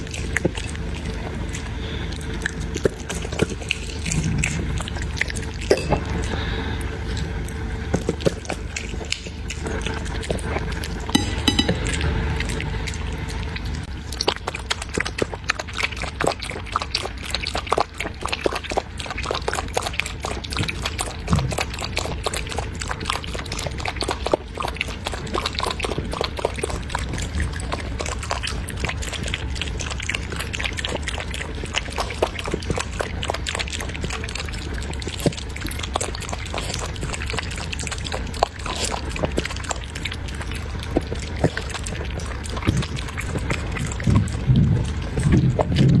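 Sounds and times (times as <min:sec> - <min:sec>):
puppy eating from a bowl: 0:00.0 - 0:46.0.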